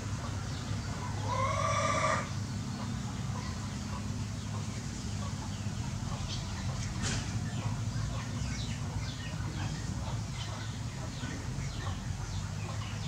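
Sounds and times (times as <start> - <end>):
fowl clucking and chirping: 0.1 - 13.0.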